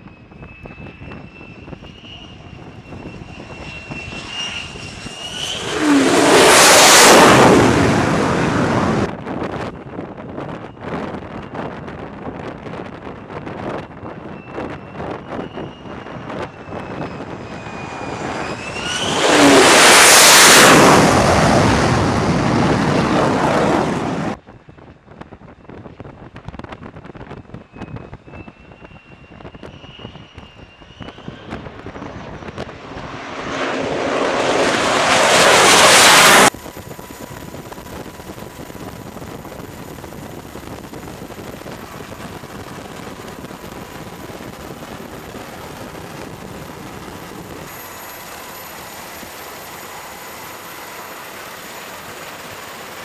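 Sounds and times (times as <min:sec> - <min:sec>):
jet engine whine and roar: 0:00.0 - 0:53.0.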